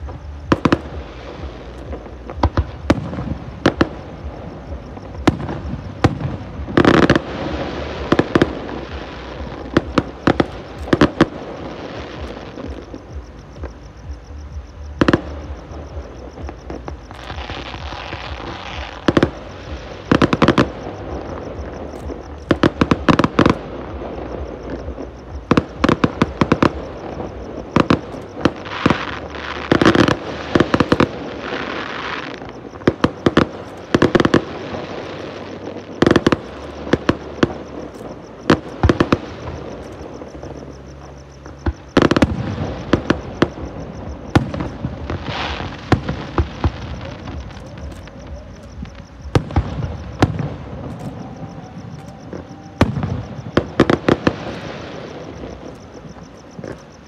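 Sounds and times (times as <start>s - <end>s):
crackle and hiss of fireworks: 0.0s - 57.0s.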